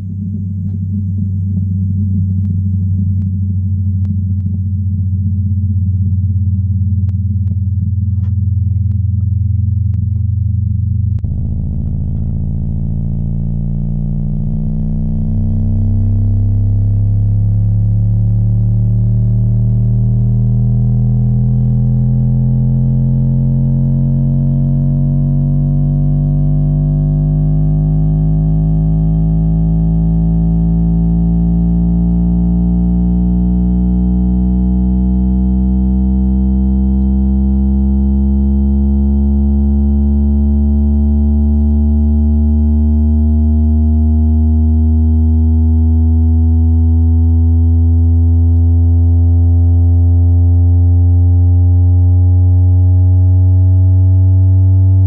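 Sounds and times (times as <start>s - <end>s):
rising bass tone from subwoofer: 0.0s - 55.0s.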